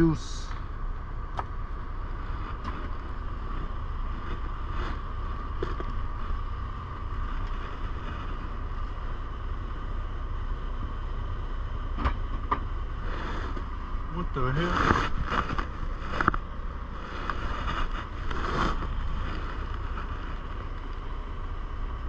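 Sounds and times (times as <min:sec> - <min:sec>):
faint constant hum: 0:00.0 - 0:22.0
steady low rumble: 0:00.0 - 0:22.0.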